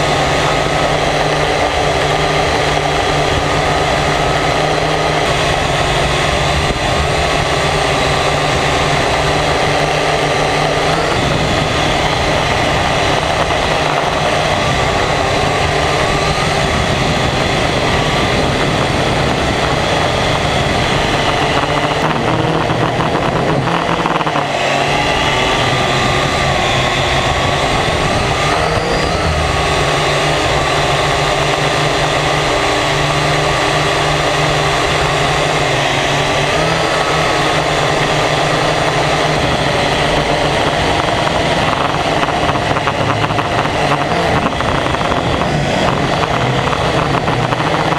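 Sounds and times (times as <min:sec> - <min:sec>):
drone propellers whining: 0:00.0 - 0:47.9.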